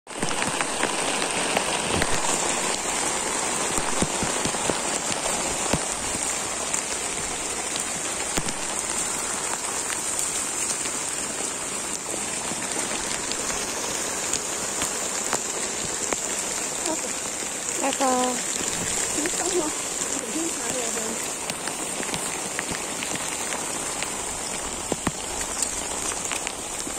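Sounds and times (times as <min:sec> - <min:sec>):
heavy rain falling: 0:00.1 - 0:26.9
raindrops tapping close by: 0:00.1 - 0:26.9.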